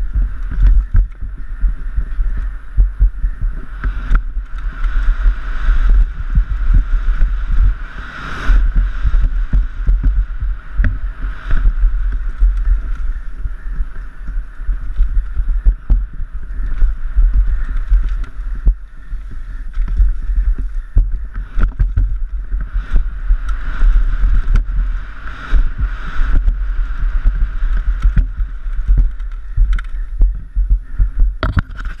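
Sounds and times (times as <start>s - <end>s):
bike knocking and rattling: 0.0s - 7.9s, 8.6s - 32.0s
bike tyres rolling over gravel: 0.0s - 32.0s
wind buffeting microphone: 0.0s - 32.0s.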